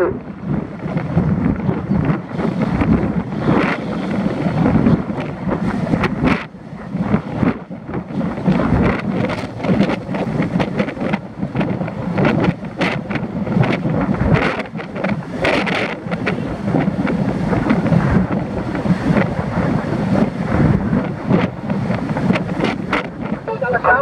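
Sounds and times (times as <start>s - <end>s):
car road noise: 0.0s - 24.0s
wind buffeting microphone: 0.0s - 24.0s.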